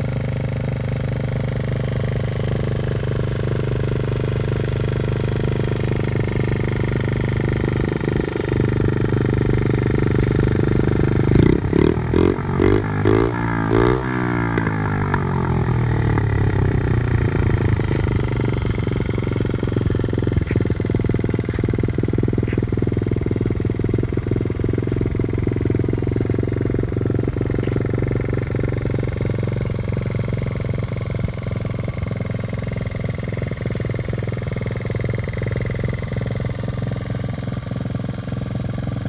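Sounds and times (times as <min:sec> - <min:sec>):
mini bike engine idling: 0:00.0 - 0:39.0.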